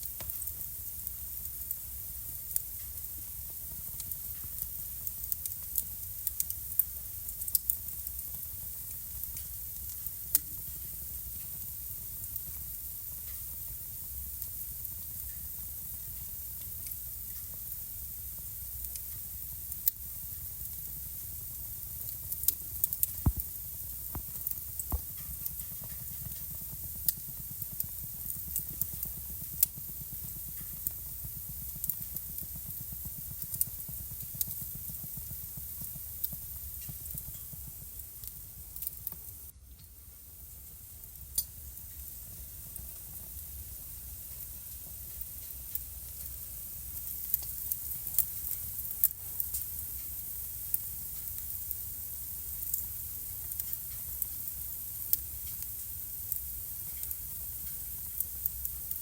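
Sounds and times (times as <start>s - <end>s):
fire crackles and pops: 0.0s - 59.0s
hiss and rumble of flames: 0.0s - 59.0s.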